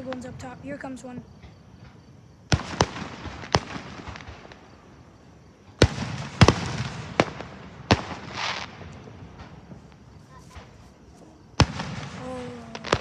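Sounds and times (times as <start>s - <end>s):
firework shells bursting: 1.3s - 13.0s.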